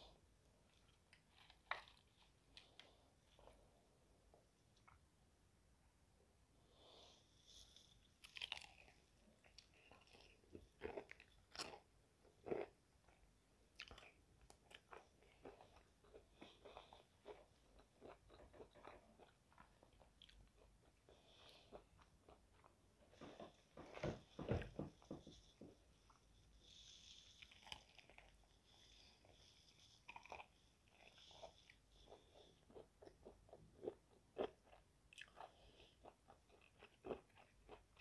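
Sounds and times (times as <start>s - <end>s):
crunching and chewing fried chicken: 0.0s - 3.8s, 7.5s - 38.0s.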